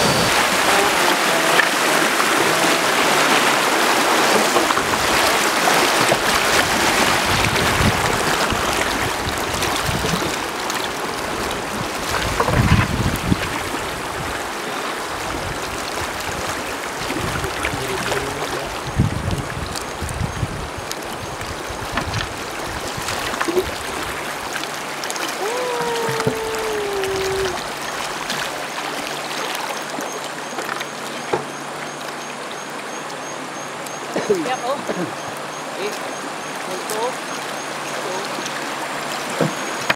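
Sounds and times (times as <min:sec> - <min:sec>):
river flowing: 0:00.0 - 0:39.9
water rushing over rocks: 0:00.0 - 0:39.9.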